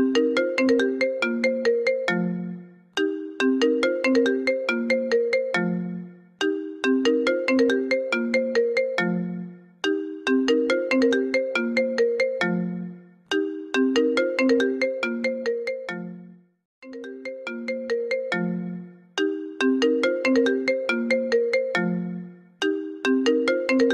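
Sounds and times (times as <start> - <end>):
marimba-like phone ringtone: 0.0 - 23.9.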